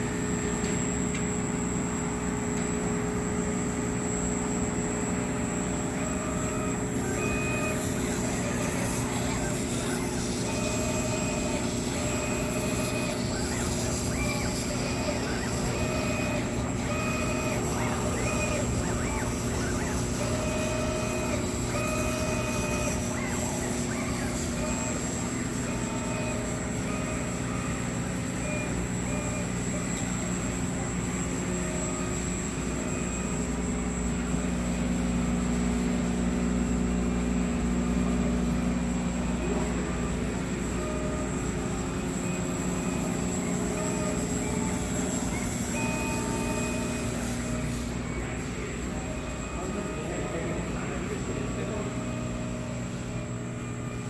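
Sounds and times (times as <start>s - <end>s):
machine hum: 0.0s - 54.0s
short pitched whines: 0.0s - 54.0s.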